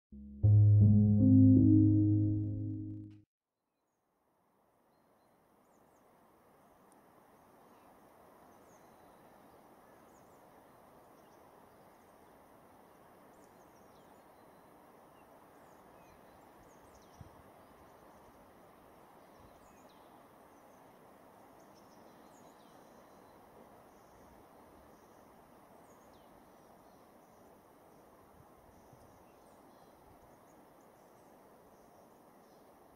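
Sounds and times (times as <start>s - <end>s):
soft steady hiss: 4.6s - 32.9s.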